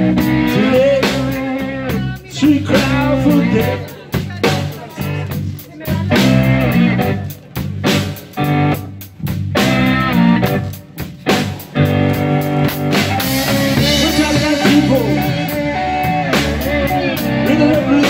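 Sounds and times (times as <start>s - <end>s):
live blues band playing: 0.0s - 18.0s.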